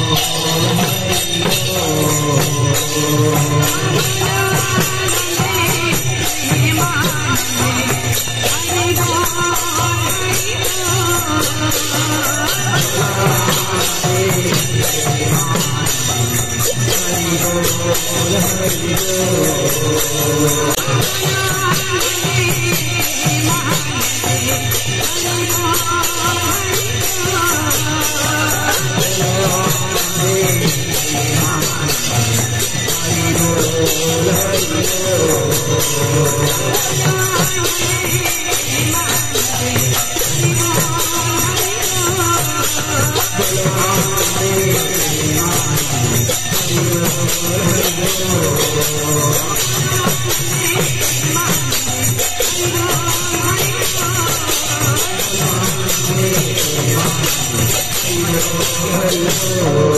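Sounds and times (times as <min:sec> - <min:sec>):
hand cymbals jingling: 0:00.0 - 0:59.9.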